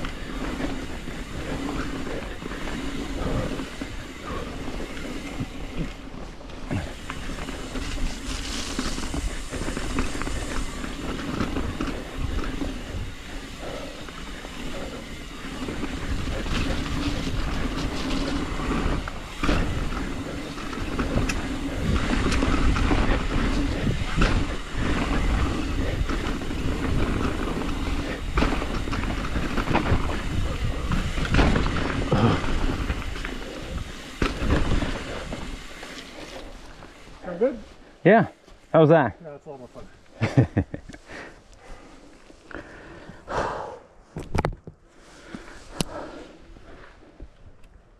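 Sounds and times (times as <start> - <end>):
bike tyres rumbling on dirt: 0.0 - 38.8
bike rattling: 0.0 - 43.5.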